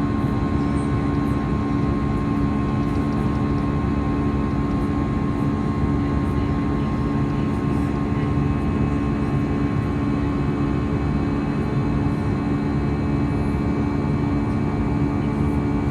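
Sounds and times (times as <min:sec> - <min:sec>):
jet engine drone in cabin: 0:00.0 - 0:15.9.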